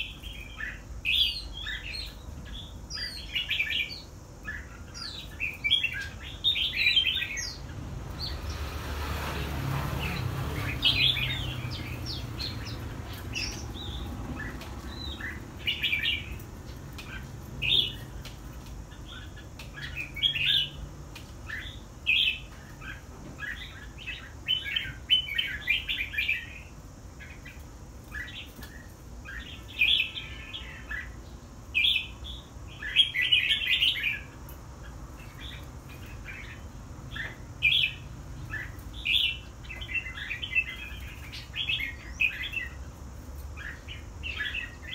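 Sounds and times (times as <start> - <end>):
bird chirping phrases: 0.0 - 44.9.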